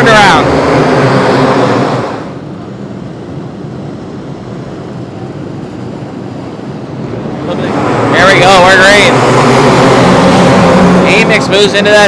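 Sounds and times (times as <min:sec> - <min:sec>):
racing car engines rumbling: 0:00.0 - 0:12.0.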